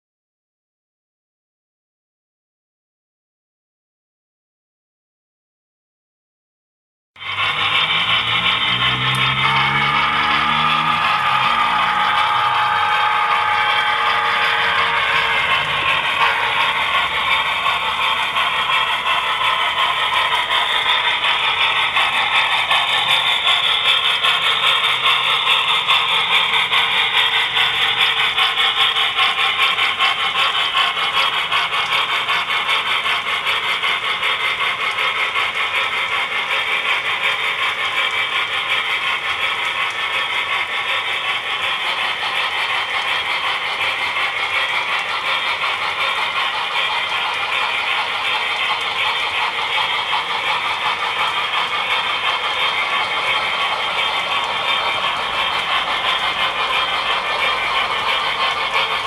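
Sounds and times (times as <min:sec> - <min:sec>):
model train wheels rattling: 0:07.2 - 0:59.0.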